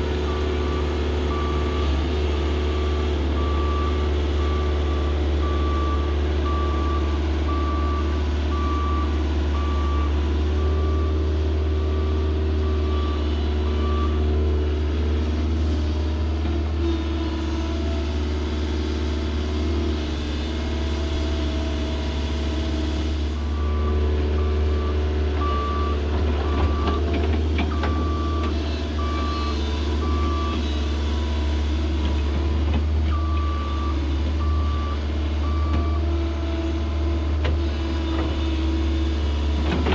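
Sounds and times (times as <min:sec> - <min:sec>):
heavy diesel equipment running: 0:00.0 - 0:39.9.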